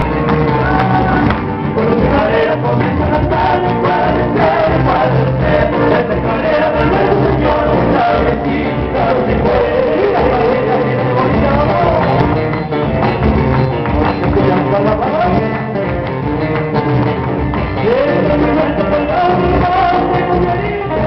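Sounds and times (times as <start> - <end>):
person singing: 0.0 - 12.6, 13.9 - 16.2, 17.6 - 21.0
guitar: 0.0 - 21.0.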